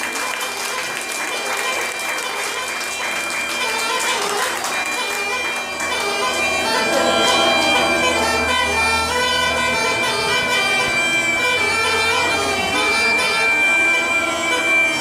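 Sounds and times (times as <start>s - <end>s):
bagpipes playing folk tune: 0.0s - 15.0s.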